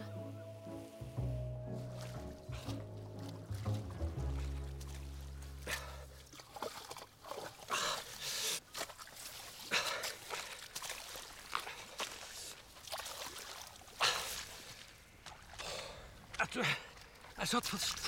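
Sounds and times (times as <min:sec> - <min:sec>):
rustling and squelching through bog: 0:00.0 - 0:18.0.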